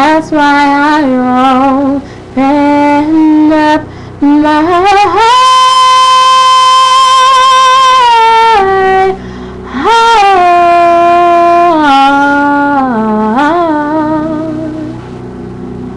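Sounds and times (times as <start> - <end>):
woman singing a cappella: 0.0 - 15.0.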